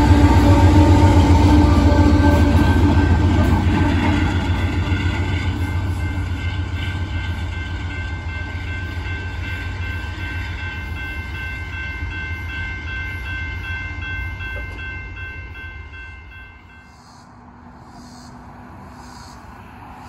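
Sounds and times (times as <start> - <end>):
crossing signal bell ringing: 0.0 - 17.3
diesel locomotives rumbling: 0.0 - 20.0.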